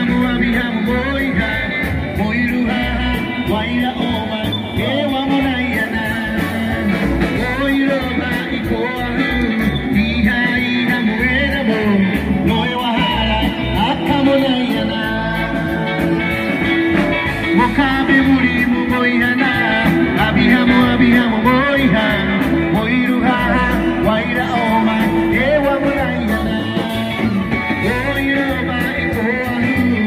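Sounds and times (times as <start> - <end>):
electric guitar: 0.0 - 30.0
man singing: 0.0 - 30.0
steady beat: 0.0 - 30.0.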